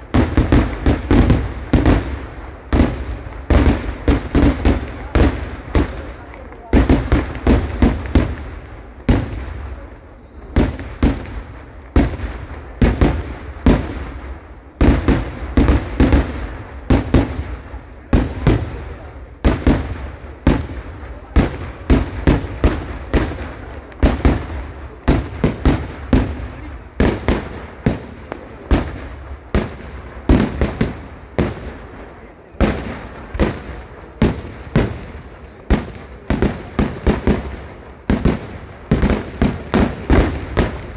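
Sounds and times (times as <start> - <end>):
fireworks blasts: 0.0 - 40.9.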